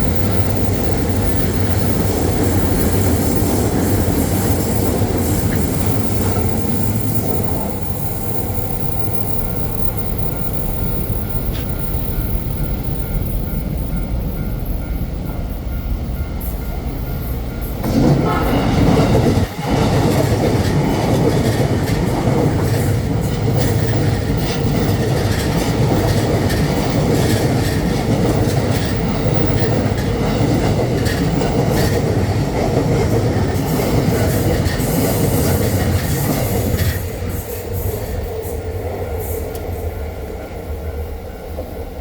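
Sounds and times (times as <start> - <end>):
wheels clacking over rail joints: 0.0 - 15.3, 17.4 - 37.4
electric train passing: 0.0 - 42.0.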